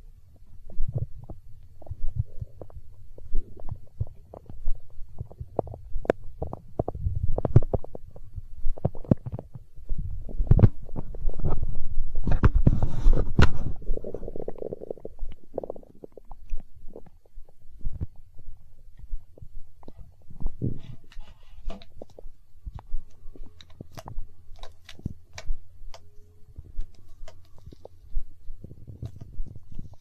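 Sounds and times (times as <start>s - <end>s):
stomach growling and gurgling: 0.0s - 30.0s.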